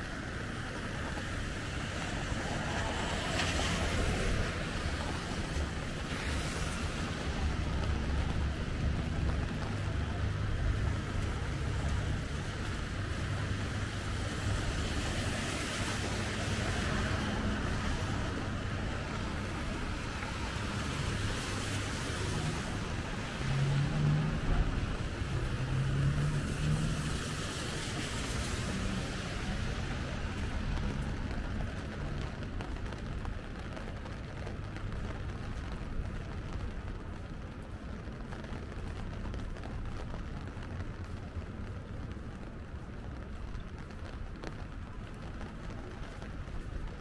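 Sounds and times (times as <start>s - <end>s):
tyres hissing on wet road: 0.0s - 47.0s.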